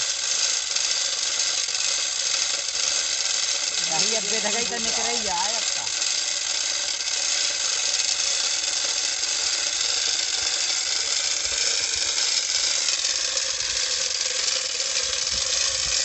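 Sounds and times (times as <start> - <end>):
ratchet pawl clicking: 0.0 - 16.0.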